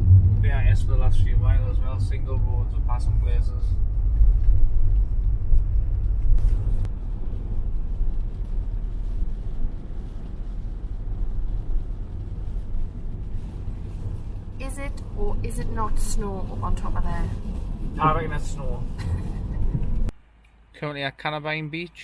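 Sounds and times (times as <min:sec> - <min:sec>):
van engine and road rumble: 0:00.0 - 0:20.2.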